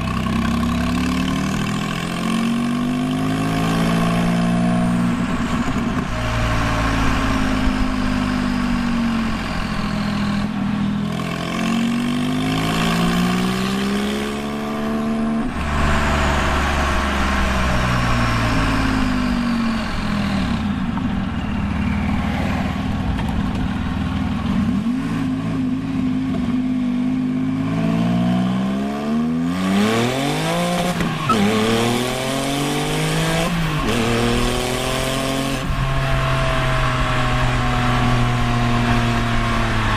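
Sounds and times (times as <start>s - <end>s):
sports car engine accelerating: 0.0s - 39.9s.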